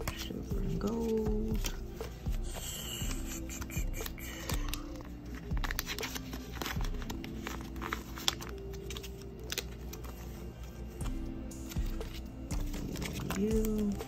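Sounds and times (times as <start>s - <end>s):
plastic sleeves rustling and crinkling: 0.0s - 14.0s
soft background music: 0.0s - 14.0s.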